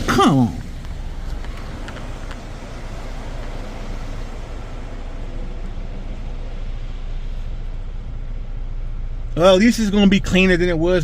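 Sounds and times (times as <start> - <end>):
car wash equipment running: 0.0 - 11.0
truck engine idling: 0.0 - 11.0.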